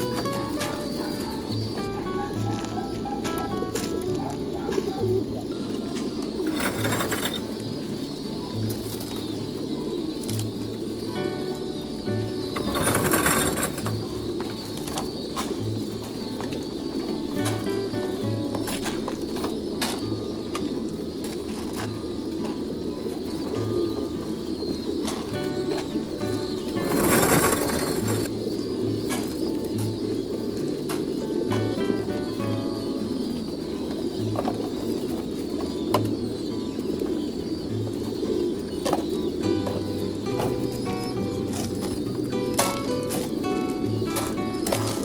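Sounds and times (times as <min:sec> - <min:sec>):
pigeons cooing: 0:00.0 - 0:45.0.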